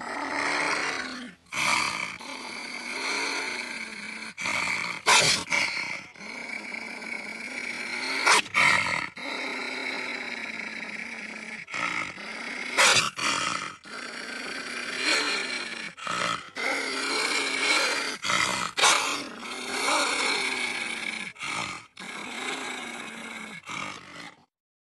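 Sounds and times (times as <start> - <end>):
animal growls and roars: 0.0 - 24.5.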